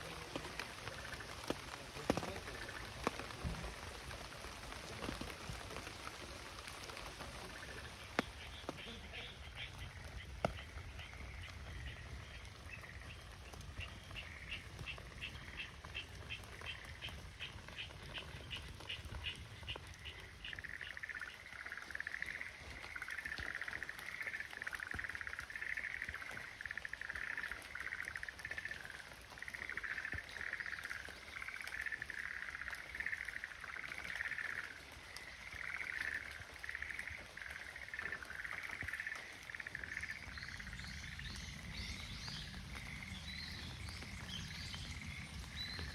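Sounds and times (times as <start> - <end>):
tree frogs calling: 0.0 - 45.9.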